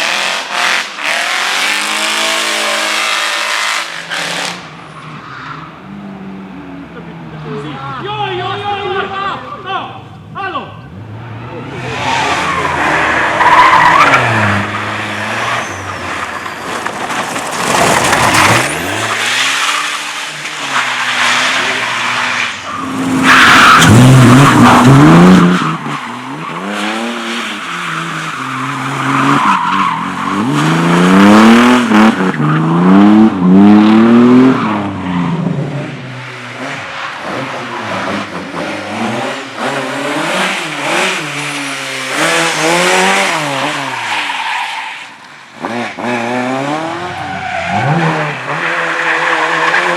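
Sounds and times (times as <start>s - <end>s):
race car engines revving: 0.0s - 49.9s
tyres squealing and skidding: 0.0s - 49.9s.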